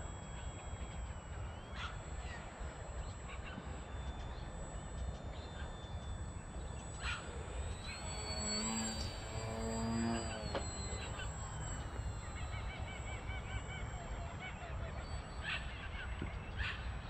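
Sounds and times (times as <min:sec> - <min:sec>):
bird calling: 0:00.0 - 0:17.0
electric model plane motor whining: 0:00.0 - 0:17.0.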